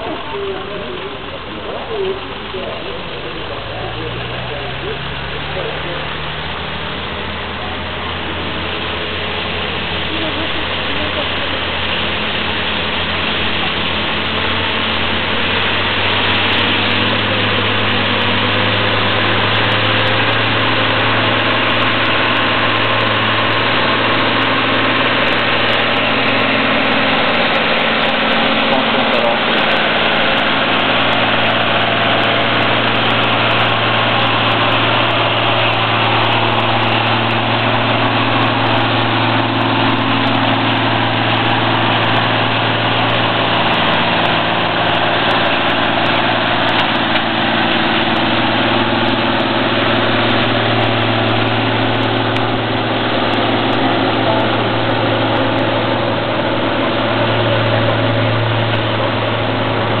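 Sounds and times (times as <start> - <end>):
truck diesel engine running: 0.0 - 60.0.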